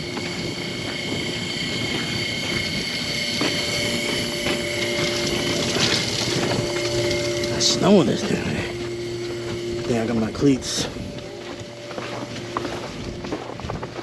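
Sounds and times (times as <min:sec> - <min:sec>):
mechanical drone: 0:00.0 - 0:14.0.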